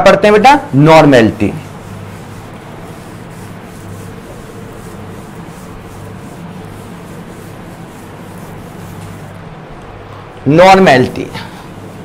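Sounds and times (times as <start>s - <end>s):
duster wiping chalkboard: 0.0s - 10.1s, 10.7s - 12.0s
steady low hum: 0.0s - 12.0s.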